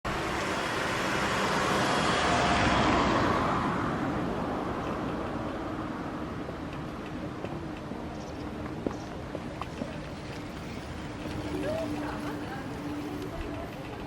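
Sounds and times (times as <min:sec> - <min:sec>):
road vehicle passing by: 0:00.1 - 0:14.0.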